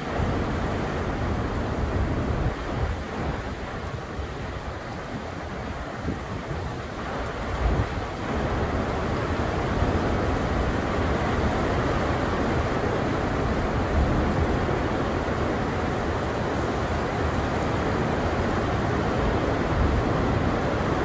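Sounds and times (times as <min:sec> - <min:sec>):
heavy rain rushing: 0:00.0 - 0:21.0.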